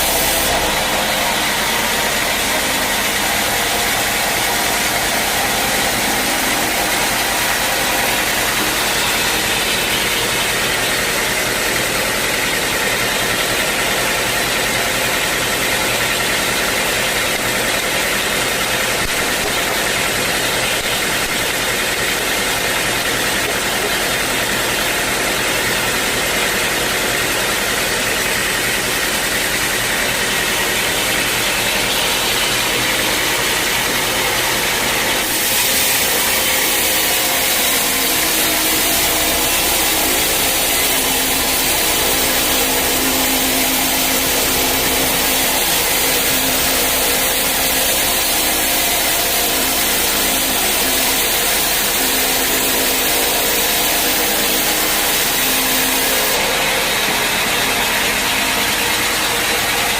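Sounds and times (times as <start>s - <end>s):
engine-driven saw cutting wood: 0.0s - 59.9s
sawmill machinery running: 0.0s - 59.9s.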